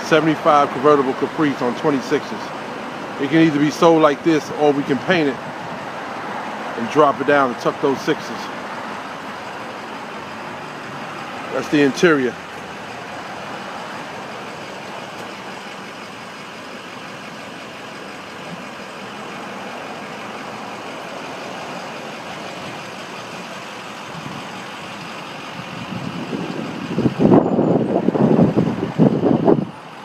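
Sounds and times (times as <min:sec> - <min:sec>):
motor vehicle noise: 0:00.0 - 0:30.0.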